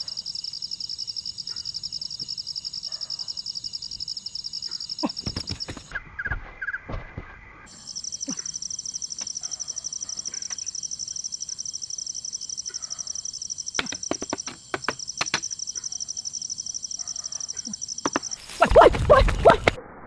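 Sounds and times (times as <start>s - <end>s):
insects trilling: 0.0s - 5.9s, 7.7s - 19.8s.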